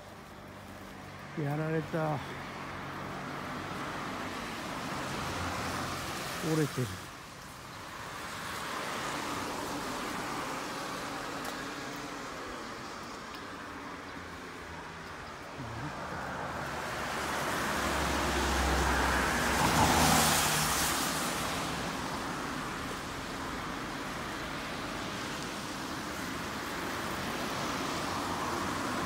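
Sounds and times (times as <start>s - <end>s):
car passing on wet road: 0.0s - 29.0s.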